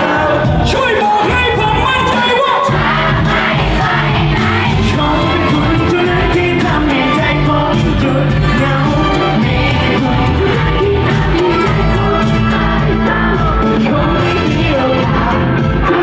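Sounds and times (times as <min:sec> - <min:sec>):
live band playing pop ballad: 0:00.0 - 0:16.0
person singing: 0:00.0 - 0:16.0.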